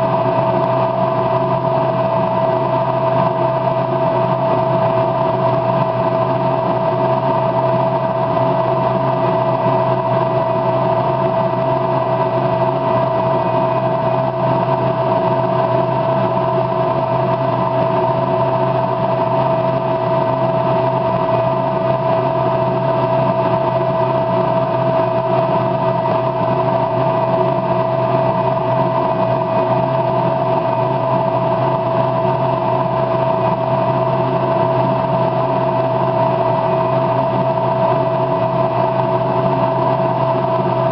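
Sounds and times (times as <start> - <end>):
machine drone: 0.0 - 40.9.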